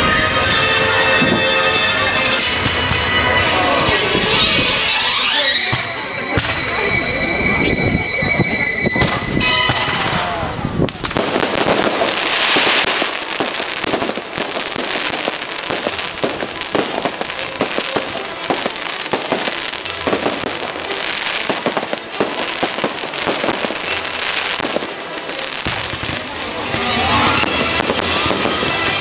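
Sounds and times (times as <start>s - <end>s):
fireworks bangs and pops: 0.0s - 29.0s
fireworks crackling: 0.0s - 29.0s.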